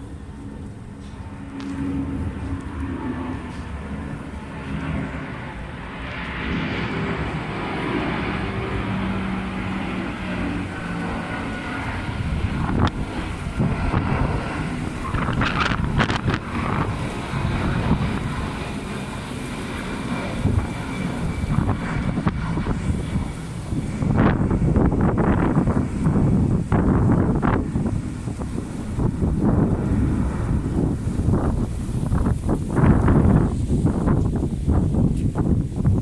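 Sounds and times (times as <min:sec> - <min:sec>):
jet engines at takeoff power: 0:00.0 - 0:36.0
wind buffeting microphone: 0:00.0 - 0:36.0.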